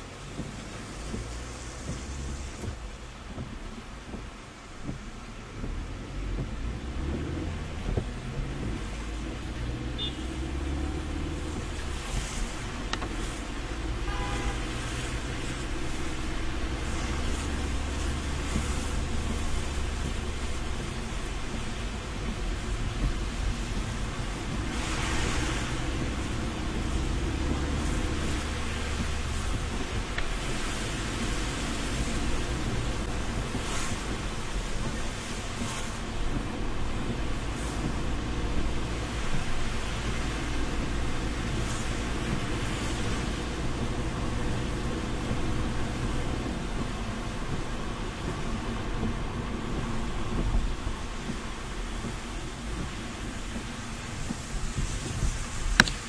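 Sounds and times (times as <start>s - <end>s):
car cabin rumble: 0.0s - 56.0s
engine and road drone: 0.0s - 56.0s
tyre hiss on wet road: 0.0s - 56.0s.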